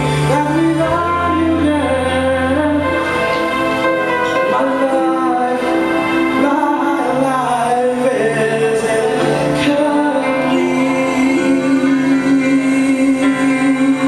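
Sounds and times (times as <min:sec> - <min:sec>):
instrumental accompaniment: 0:00.0 - 0:14.0
man singing into microphone: 0:00.0 - 0:14.0.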